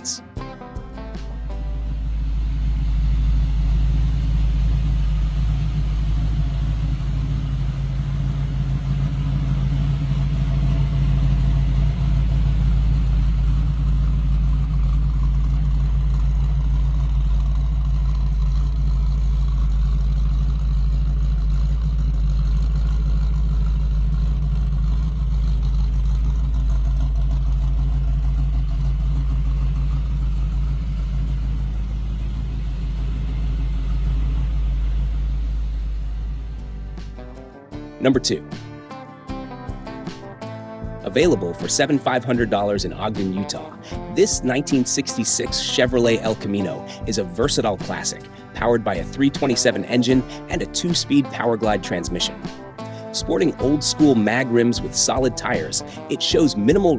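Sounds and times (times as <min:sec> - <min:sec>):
car engine running steadily: 0:00.0 - 0:56.9.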